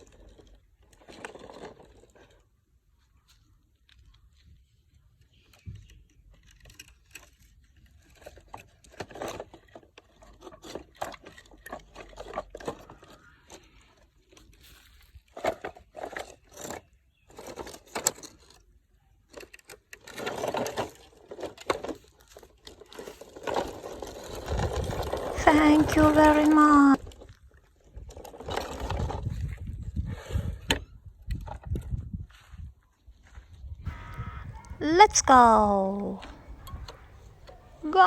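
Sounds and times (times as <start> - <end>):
toy cars clicking and scraping: 0.0 - 31.9.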